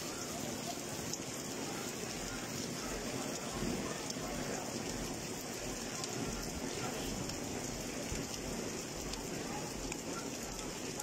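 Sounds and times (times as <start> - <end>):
rain on wet pavement: 0.0 - 11.0
water streaming off an edge: 0.0 - 11.0.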